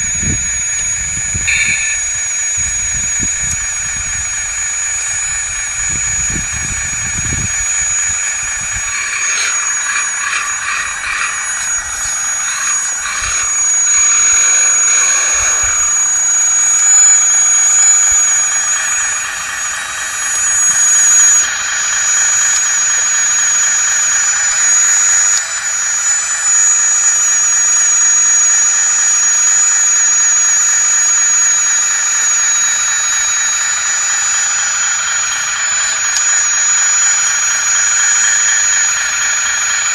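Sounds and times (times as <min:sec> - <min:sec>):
toy excavator whining: 0:00.0 - 0:39.9.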